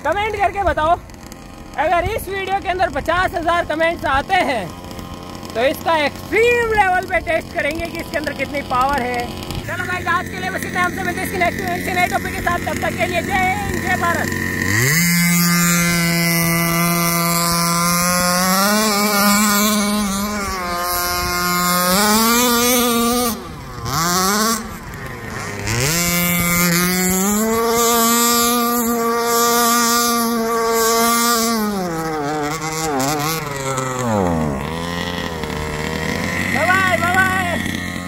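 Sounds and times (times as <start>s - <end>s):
two-stroke engine revving: 0.0s - 38.0s.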